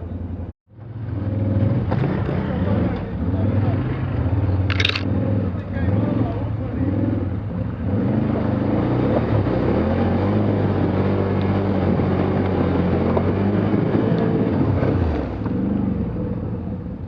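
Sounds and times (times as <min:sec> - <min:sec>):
vehicle engine pulling hard: 0:00.0 - 0:17.0.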